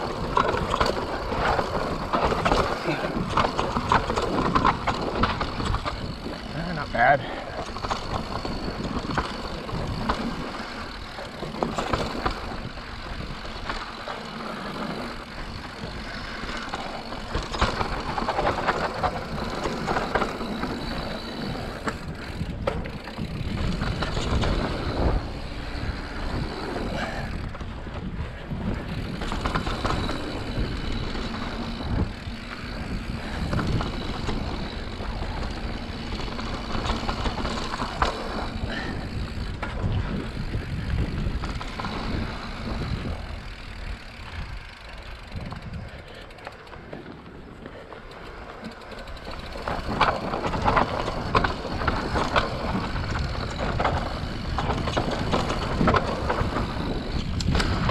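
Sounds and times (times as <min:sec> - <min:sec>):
bike rattling over bumps: 0:00.0 - 0:57.9
bike tires rolling over dirt: 0:00.0 - 0:57.9.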